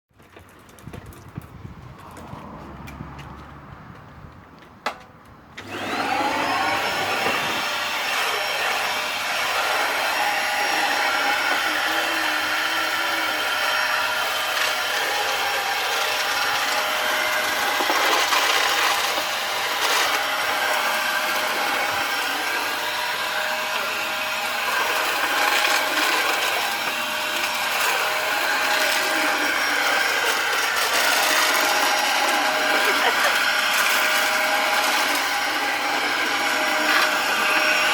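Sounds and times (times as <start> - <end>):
vacuum cleaner motor whining: 5.6 - 37.9.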